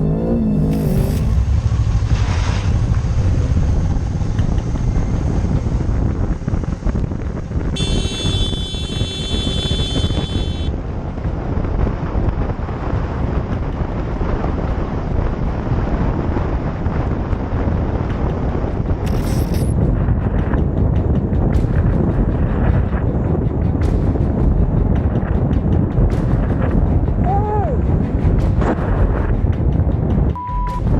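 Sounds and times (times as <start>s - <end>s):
motorcycle engine and road rumble: 0.0s - 30.9s
wind buffeting microphone: 1.4s - 30.9s.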